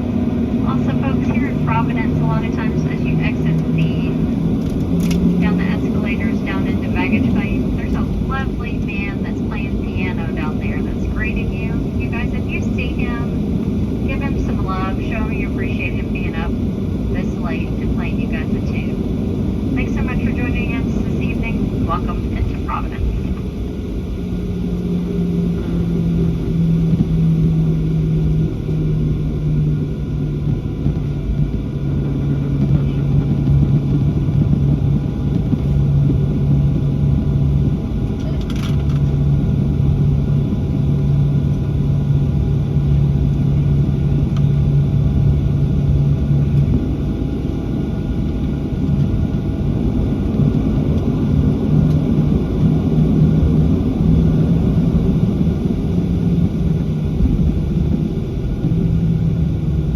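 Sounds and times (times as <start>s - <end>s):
jet engines idling in cabin: 0.0s - 59.9s.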